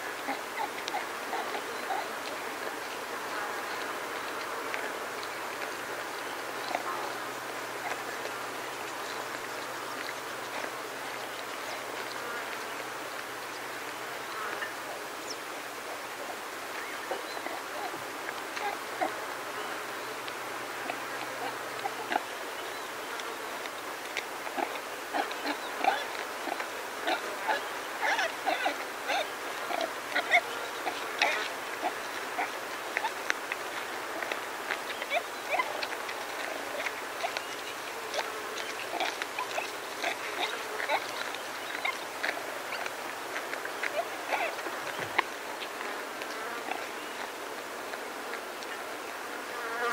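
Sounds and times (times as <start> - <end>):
grass being cropped and chewed: 0.0 - 49.1
flies buzzing: 0.0 - 49.9
small birds chirping: 0.1 - 15.7, 16.7 - 47.5
animals feeding clicks: 0.1 - 49.0.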